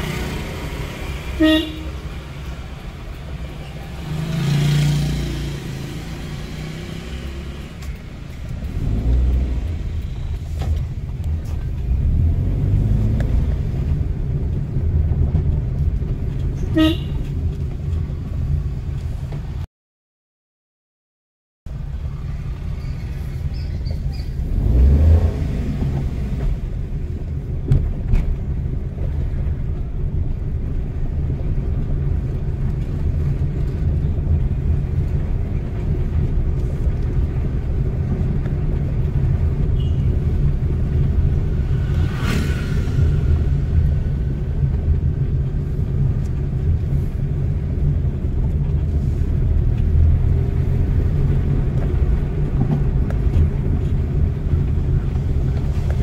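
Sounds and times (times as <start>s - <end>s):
car engine and tyres rumbling: 0.0s - 19.7s, 21.7s - 56.0s.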